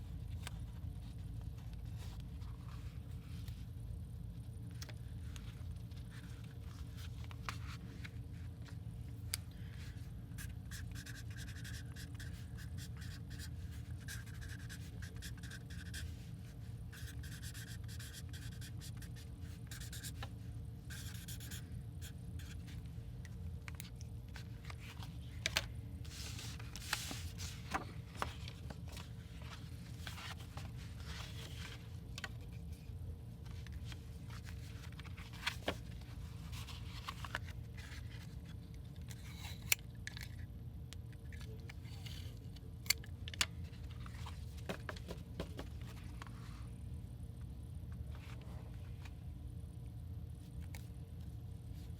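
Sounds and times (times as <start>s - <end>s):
low room hum: 0.0s - 51.9s.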